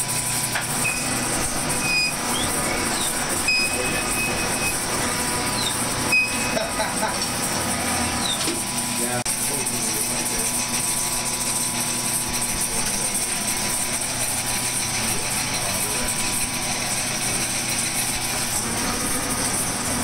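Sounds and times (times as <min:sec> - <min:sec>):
metal shaper machining: 0:00.0 - 0:20.0.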